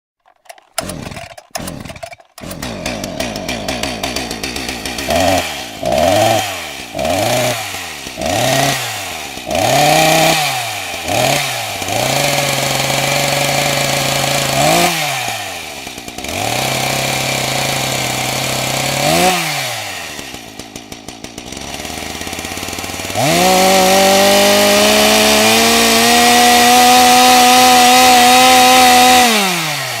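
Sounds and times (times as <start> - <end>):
chainsaw engine revving: 0.2 - 30.0.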